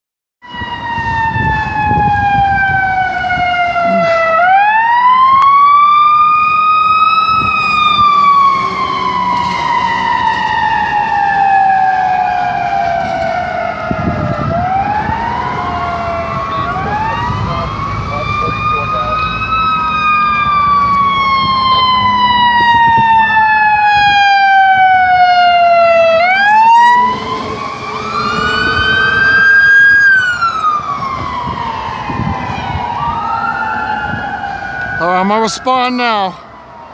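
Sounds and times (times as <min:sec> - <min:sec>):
engine and traffic rumble: 0:00.4 - 0:36.9
fire engine siren wailing: 0:00.4 - 0:36.9
second siren rising sweep: 0:00.4 - 0:36.9.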